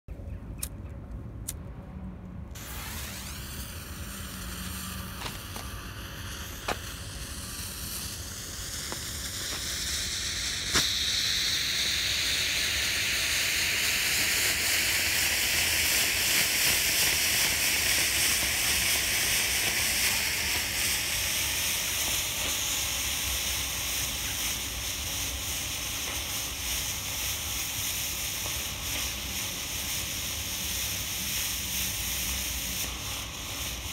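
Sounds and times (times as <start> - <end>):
smoke bomb hissing: 2.6 - 33.9.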